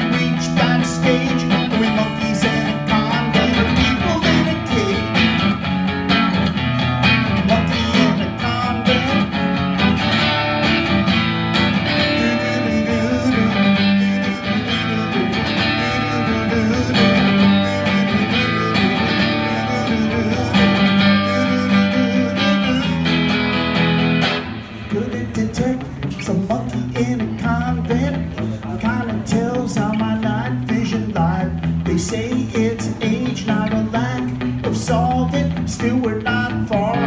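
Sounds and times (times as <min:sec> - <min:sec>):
electric guitar strummed: 0:00.0 - 0:37.0.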